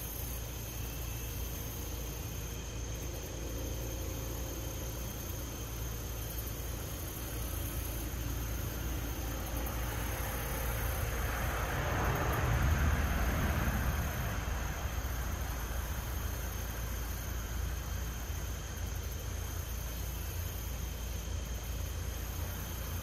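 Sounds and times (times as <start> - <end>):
outdoor background rumble and hiss: 0.0 - 23.0.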